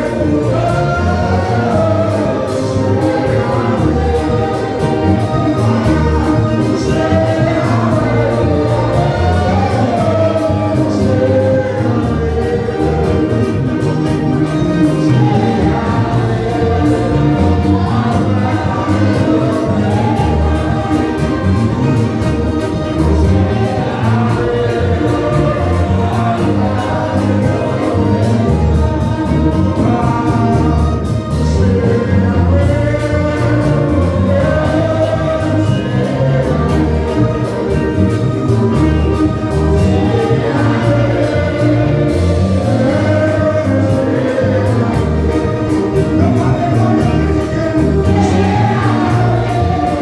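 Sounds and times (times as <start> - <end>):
amplified music with heavy bass: 0.0 - 50.0
congregation singing: 0.0 - 50.0
worship team singing: 0.0 - 50.0.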